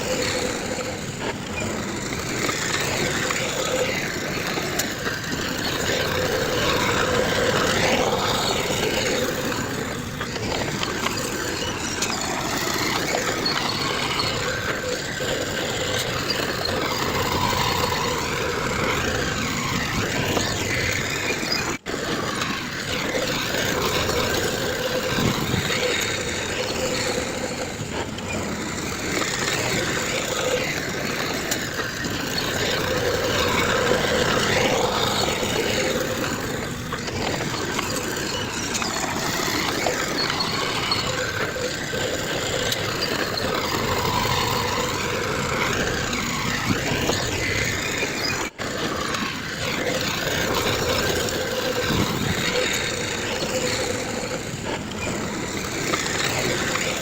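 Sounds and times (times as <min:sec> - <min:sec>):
heavy machinery diesel engines: 0:00.0 - 0:57.0.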